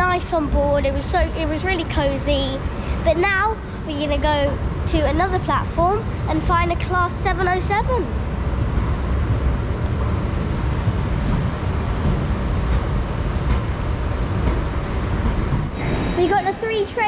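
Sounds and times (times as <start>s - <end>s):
railway station rumble and hiss: 0.0s - 17.0s.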